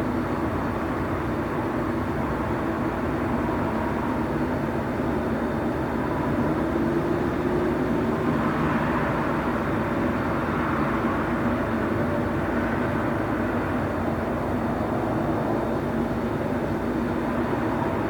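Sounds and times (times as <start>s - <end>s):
rumble and hum of trains: 0.0s - 18.0s.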